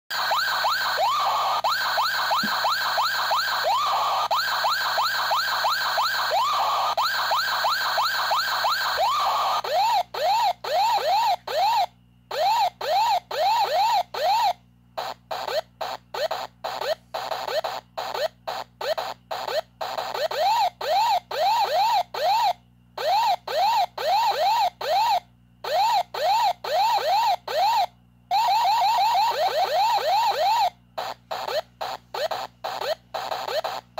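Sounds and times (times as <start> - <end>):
warbling electronic siren: 0.1 - 33.9.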